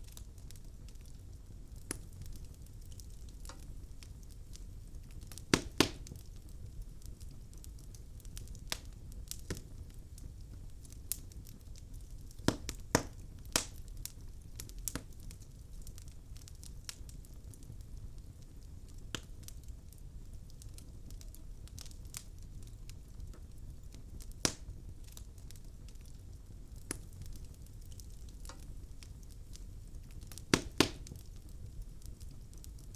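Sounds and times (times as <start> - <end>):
logs crackling and popping: 0.0 - 32.9
low rumble of flames: 0.0 - 32.9.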